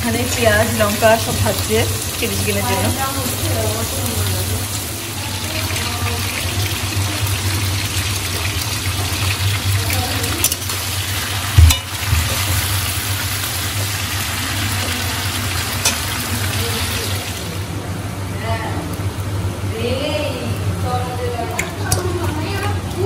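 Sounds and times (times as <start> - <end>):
vegetables sizzling in pan: 0.0 - 23.0.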